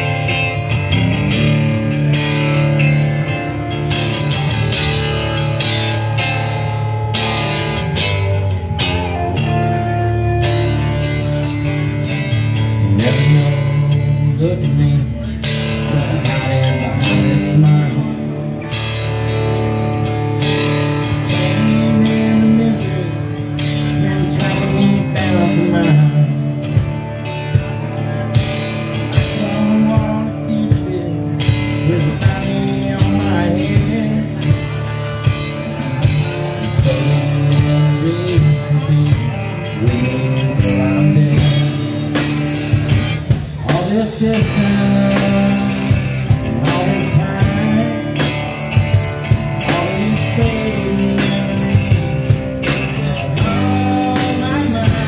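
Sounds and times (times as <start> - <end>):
drum kit beat: 0.0 - 14.8, 15.4 - 55.0
bass guitar: 0.0 - 55.0
electric guitar: 0.0 - 55.0
strummed acoustic guitar: 0.0 - 55.0.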